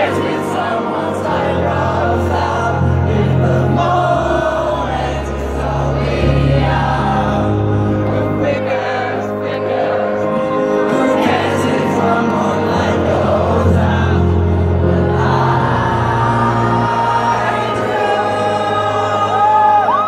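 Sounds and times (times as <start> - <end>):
crowd singing along: 0.0 - 20.0
rock band playing slow ballad: 0.0 - 20.0.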